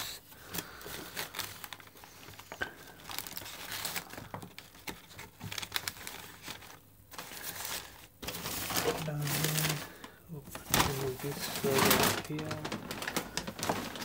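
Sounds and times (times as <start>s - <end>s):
paper wrapping crinkling: 0.0s - 14.0s.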